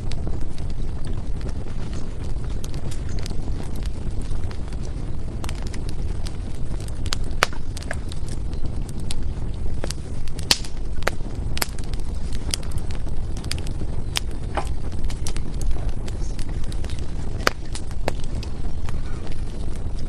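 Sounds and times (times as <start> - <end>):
fire rumbling: 0.0 - 20.0
firewood crackling and popping: 0.0 - 20.0.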